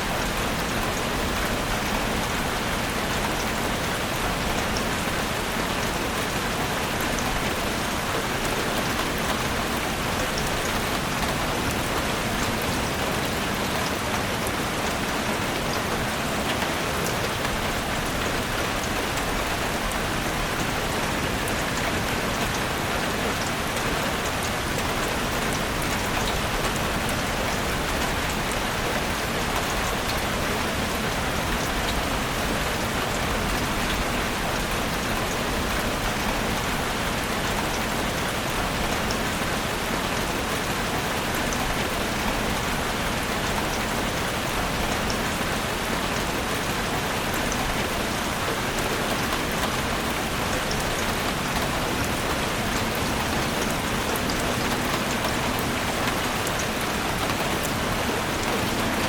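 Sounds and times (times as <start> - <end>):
heavy rain in forest: 0.0 - 59.0.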